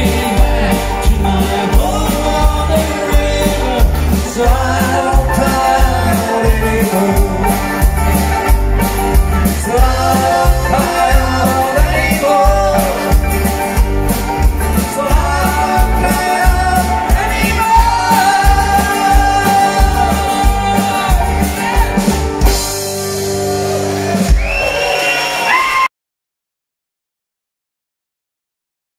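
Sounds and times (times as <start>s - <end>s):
accordion: 0.0s - 24.3s
acoustic guitars: 0.0s - 24.5s
folk band playing with singing: 0.0s - 24.9s
steady drum beat: 0.0s - 24.9s.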